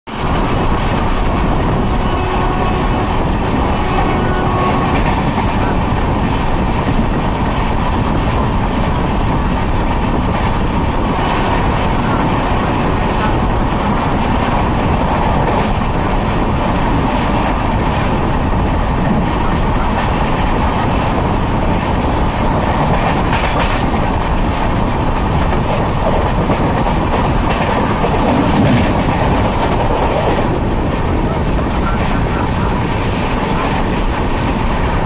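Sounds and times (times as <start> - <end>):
train running noise: 0.1 - 35.0.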